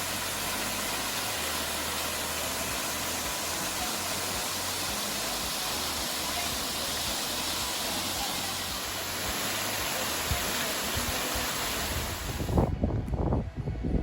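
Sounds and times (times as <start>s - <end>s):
waterfall roaring: 0.0s - 12.6s.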